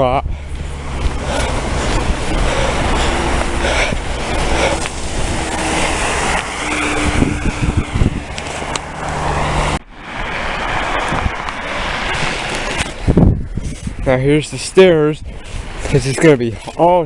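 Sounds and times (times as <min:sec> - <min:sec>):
vehicle engine hum: 0:00.0 - 0:16.8
wind buffeting microphone: 0:00.0 - 0:17.0.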